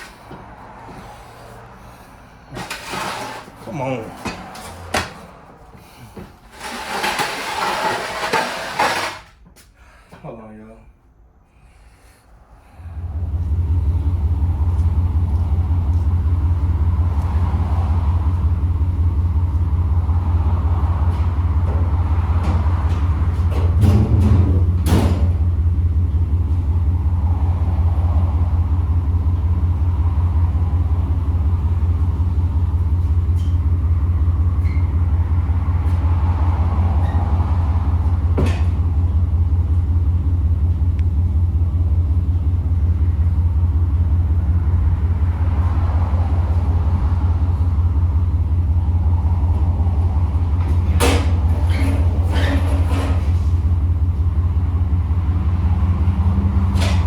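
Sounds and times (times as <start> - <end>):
vehicle engine drone: 0.0 - 9.2, 11.2 - 57.0
road noise: 0.0 - 57.0.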